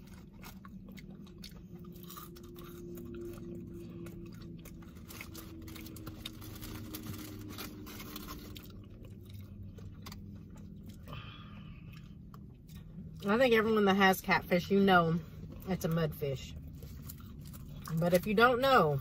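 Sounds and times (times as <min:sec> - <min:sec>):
wet chewing with crunches: 0:00.0 - 0:13.3, 0:15.4 - 0:19.0
low car hum: 0:00.0 - 0:19.0.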